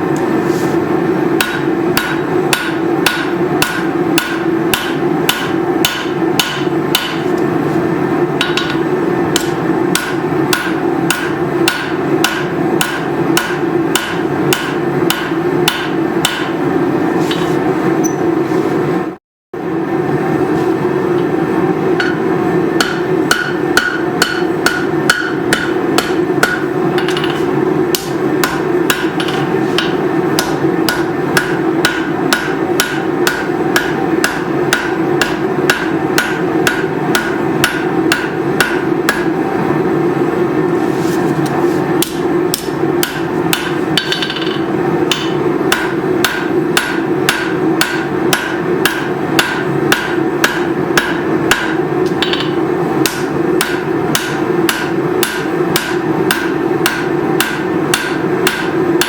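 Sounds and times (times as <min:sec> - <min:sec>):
steady hum: 0:00.0 - 0:59.0
hammer striking steel on anvil: 0:01.4 - 0:07.3, 0:08.4 - 0:16.6, 0:22.0 - 0:39.4, 0:42.0 - 0:59.0.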